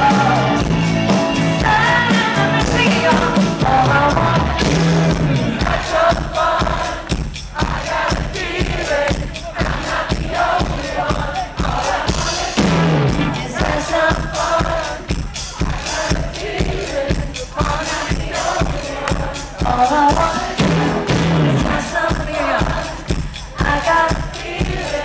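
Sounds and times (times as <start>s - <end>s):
live rock band playing: 0.0s - 24.3s
steady drumbeat: 0.0s - 25.0s
voices singing: 0.0s - 25.0s.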